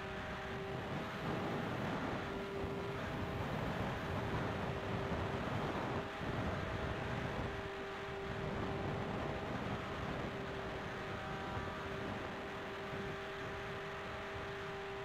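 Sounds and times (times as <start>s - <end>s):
model plane motor whine: 0.0s - 15.0s
wind on microphone: 0.0s - 15.0s.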